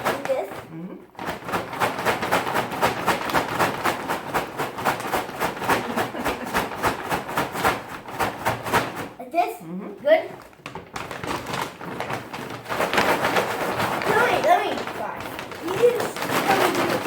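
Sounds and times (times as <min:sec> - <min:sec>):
popcorn shaken in a bag: 0:00.0 - 0:00.6, 0:01.2 - 0:09.2, 0:10.3 - 0:17.0.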